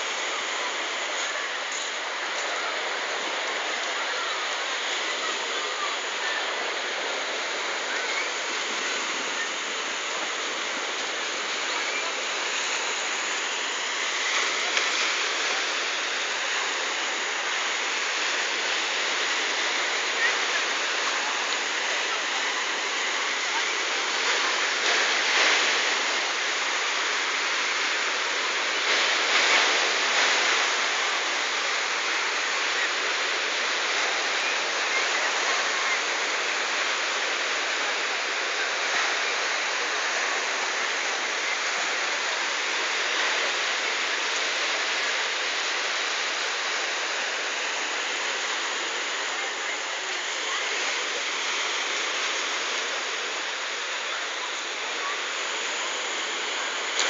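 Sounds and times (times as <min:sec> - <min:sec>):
waves washing over pebbles: 0:00.0 - 0:57.0.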